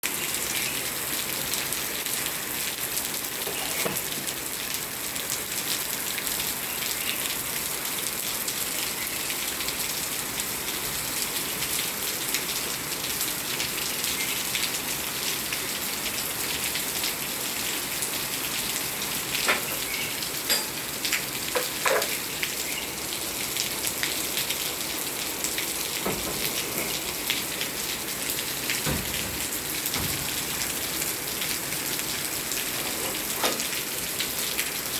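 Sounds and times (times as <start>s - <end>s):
steady rain falling: 0.0s - 34.9s
water drips and splashes: 0.0s - 34.9s.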